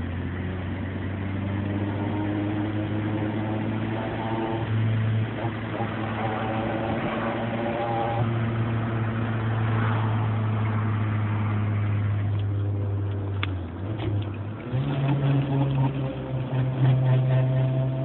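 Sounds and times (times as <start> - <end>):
car engine droning: 0.0 - 18.0
high engine tone: 0.0 - 18.0.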